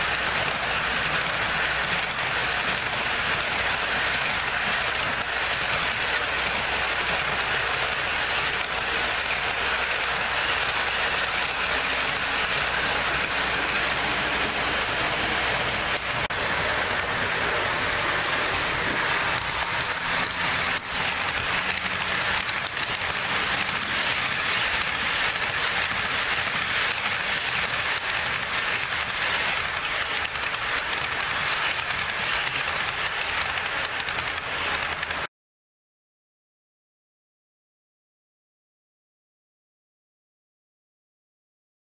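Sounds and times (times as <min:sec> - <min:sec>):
model train wheels rattling on rails: 0:00.0 - 0:35.3.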